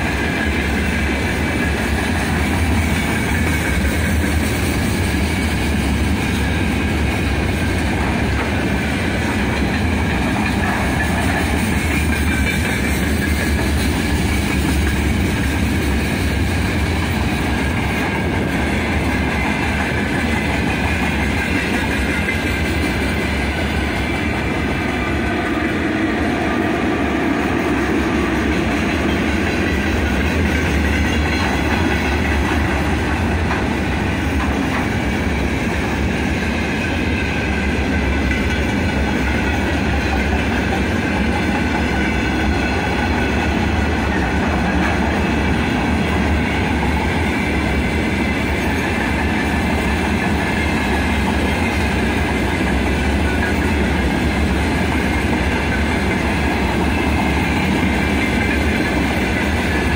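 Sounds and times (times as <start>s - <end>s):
freight train wheels rolling on rails: 0.0s - 59.9s.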